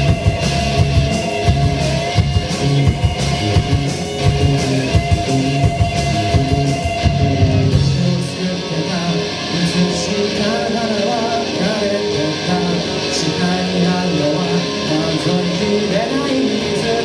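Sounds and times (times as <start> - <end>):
person singing: 0.0 - 17.0
rock band playing live: 0.0 - 17.0.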